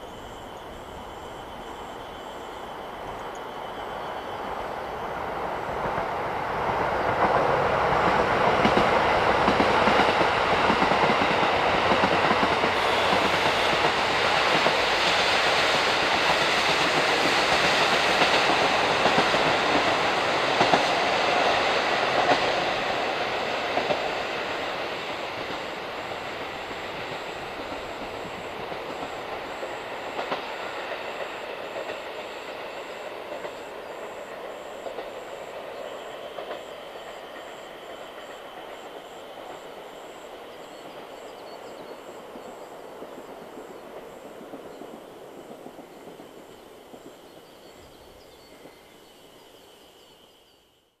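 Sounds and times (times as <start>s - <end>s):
train wheels clicking on rails: 0.0s - 49.9s
diesel train running: 3.8s - 47.2s.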